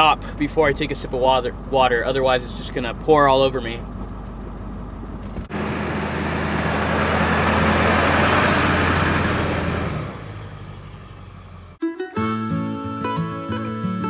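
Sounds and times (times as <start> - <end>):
tyre and road noise: 0.0 - 11.8
vehicle engine hum: 0.0 - 11.8.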